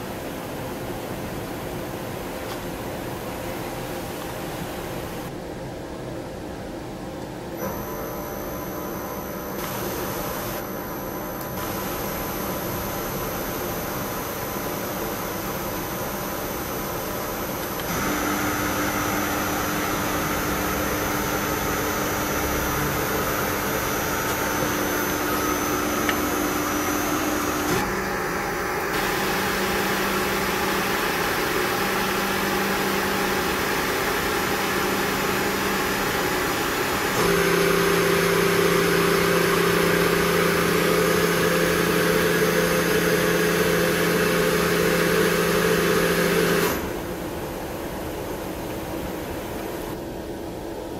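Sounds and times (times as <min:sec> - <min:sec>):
machine spindle motor hum and whine: 0:00.0 - 0:50.9.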